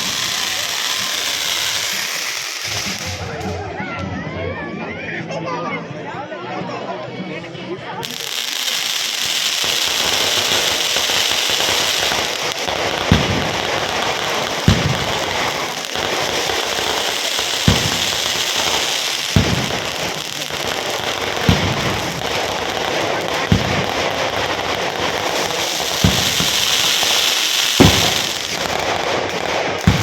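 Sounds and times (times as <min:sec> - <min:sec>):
loud firecracker bangs: 0:00.0 - 0:03.5, 0:08.0 - 0:30.0
firecrackers crackling: 0:00.0 - 0:03.7, 0:08.0 - 0:30.0.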